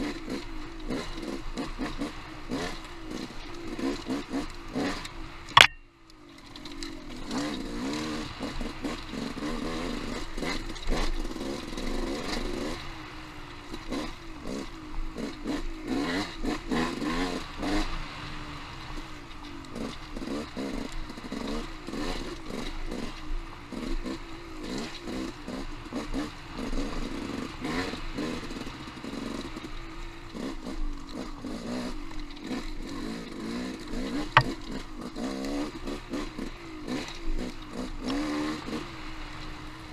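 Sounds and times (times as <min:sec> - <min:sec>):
motorcycle engine revving: 0:00.0 - 0:05.8, 0:06.4 - 0:39.9.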